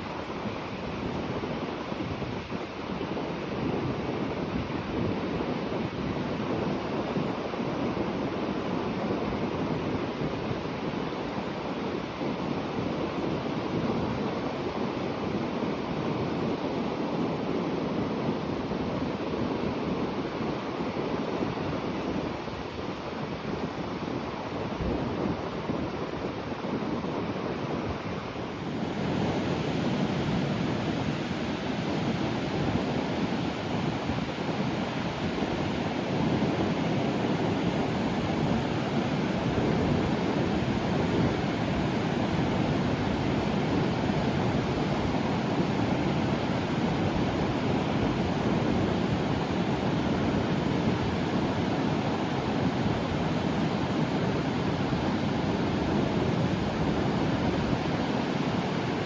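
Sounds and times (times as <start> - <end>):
sea surf breaking on shore: 0.0 - 59.0.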